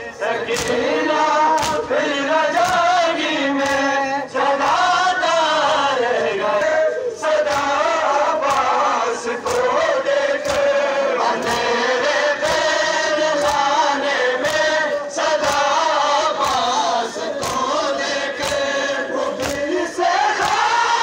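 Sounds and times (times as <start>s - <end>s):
crowd of men chanting: 0.0s - 21.0s
rhythmic chest-beating slaps: 0.0s - 21.0s.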